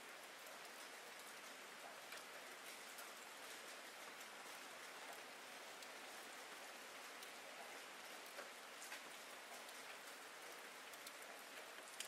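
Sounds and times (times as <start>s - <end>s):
faint steady rain hiss: 0.0s - 12.0s.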